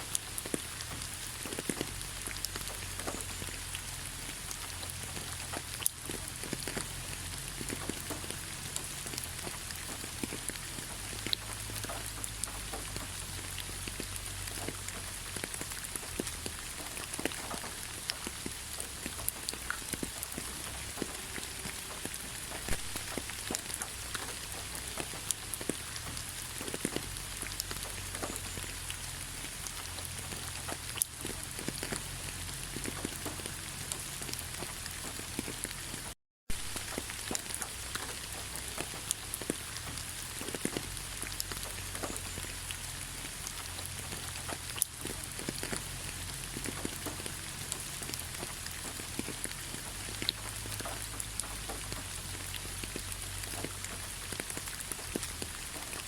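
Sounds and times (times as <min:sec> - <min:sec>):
raindrops ticking close by: 0:00.0 - 0:56.0
steady rain falling: 0:00.0 - 0:56.0.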